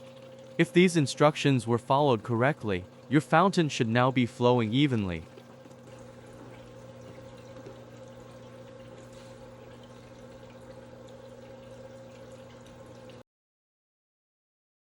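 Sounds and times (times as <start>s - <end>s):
steady low hum: 0.0s - 13.2s
water running down fountain glass: 0.0s - 13.2s.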